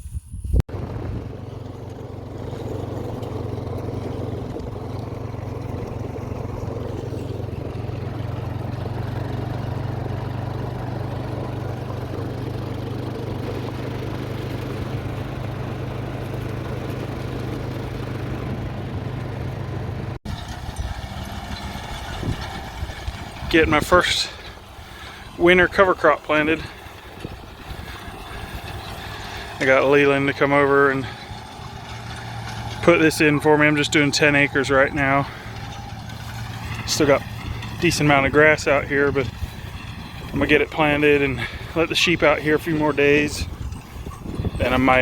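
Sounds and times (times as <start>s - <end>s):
engine running steadily: 0.7s - 45.0s.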